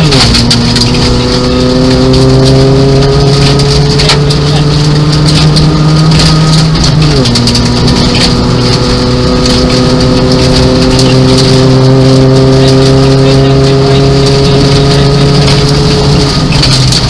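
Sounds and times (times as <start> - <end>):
gravel rattling against car underside: 0.0 - 17.0
rally car engine revving: 0.0 - 17.0.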